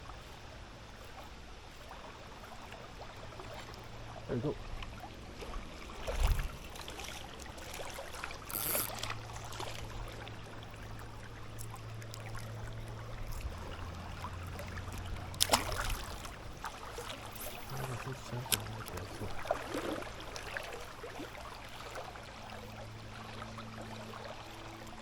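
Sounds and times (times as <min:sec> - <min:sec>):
river water running: 0:00.0 - 0:25.0.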